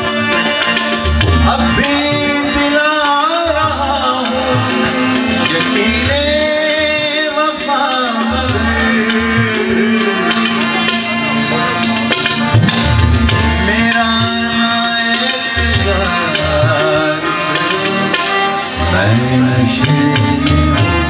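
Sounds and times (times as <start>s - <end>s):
harmonium holding a note: 0.0s - 21.0s
tabla strokes: 0.0s - 21.0s
man singing: 1.3s - 12.0s, 12.7s - 21.0s.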